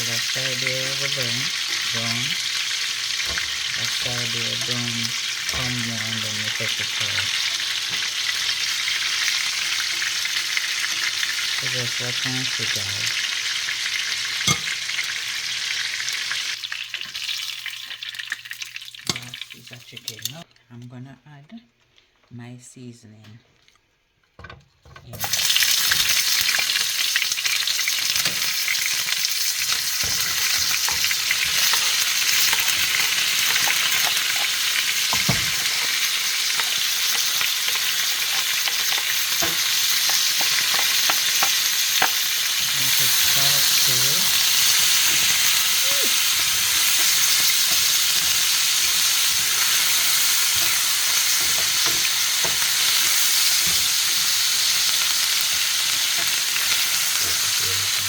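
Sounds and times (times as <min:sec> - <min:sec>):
seasoning sizzling in hot oil: 0:00.0 - 0:20.4, 0:25.2 - 0:58.0.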